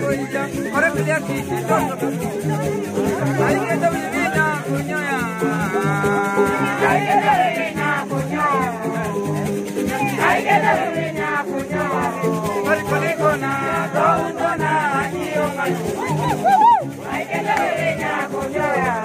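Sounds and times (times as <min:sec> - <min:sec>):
plucked string instrument: 0:00.0 - 0:19.0
shaken rattle: 0:00.0 - 0:19.0
voices singing: 0:00.0 - 0:19.0.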